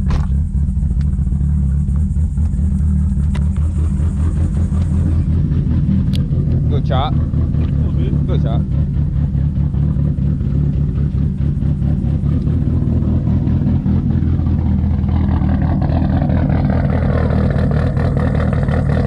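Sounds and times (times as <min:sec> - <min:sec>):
car engine lopey idle: 0:00.0 - 0:19.0.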